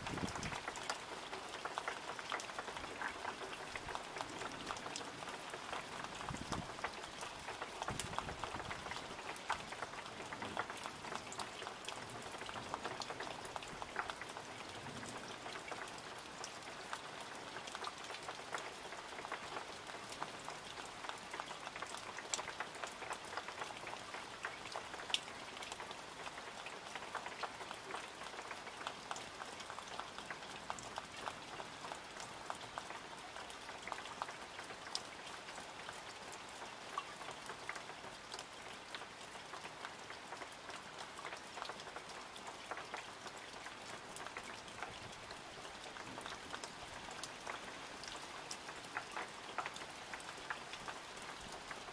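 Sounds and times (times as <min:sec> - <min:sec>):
raindrops ticking: 0:00.0 - 0:51.9.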